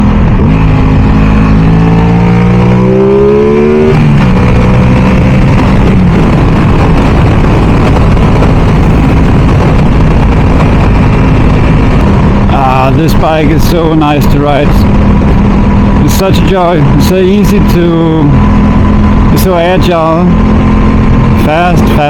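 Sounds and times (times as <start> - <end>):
motorcycle engine accelerating: 0.0 - 22.0
wind noise on microphone: 0.0 - 22.0.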